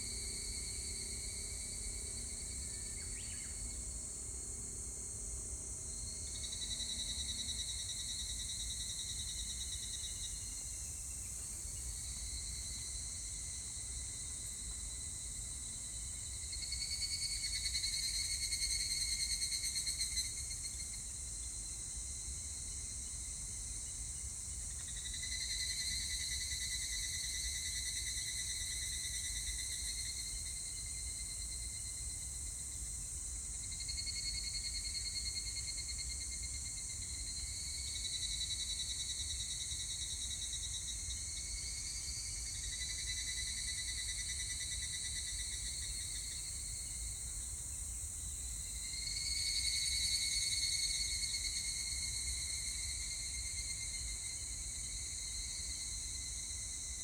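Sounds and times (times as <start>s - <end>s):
high hiss of insect noise: 0.0s - 57.0s.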